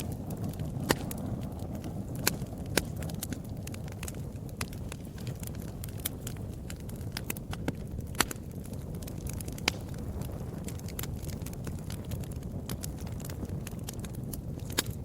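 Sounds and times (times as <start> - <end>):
fireplace fire crackling and popping: 0.0 - 15.0
low rumble of flames: 0.0 - 15.0.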